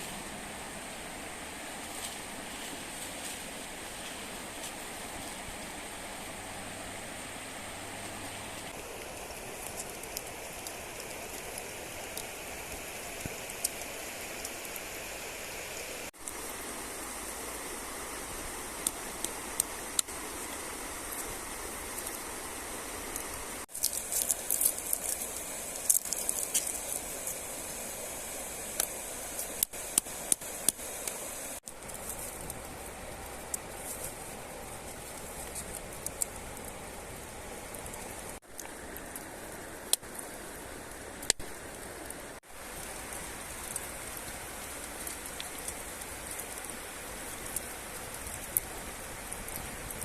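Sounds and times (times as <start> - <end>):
river water rushing: 0.0 - 50.0
sharp crackles and ticks: 8.0 - 16.7, 17.5 - 50.0.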